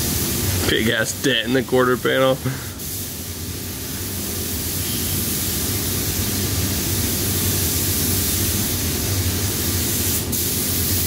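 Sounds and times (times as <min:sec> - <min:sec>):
paint spray gun hissing: 0:01.8 - 0:11.0.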